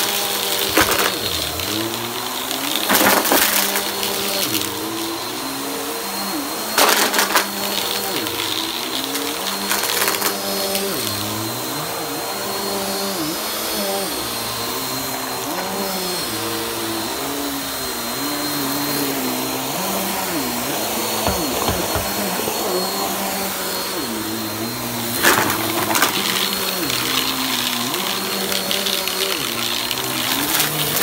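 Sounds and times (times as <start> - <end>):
stick vacuum running: 0.0 - 31.0.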